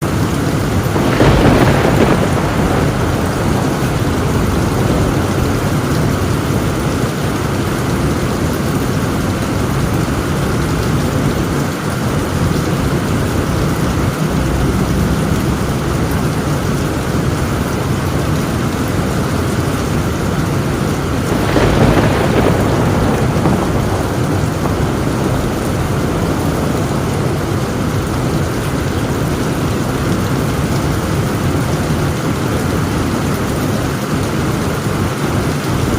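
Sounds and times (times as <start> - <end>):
heavy rain on a tin roof: 0.0 - 35.9
thunderclap: 0.1 - 35.9.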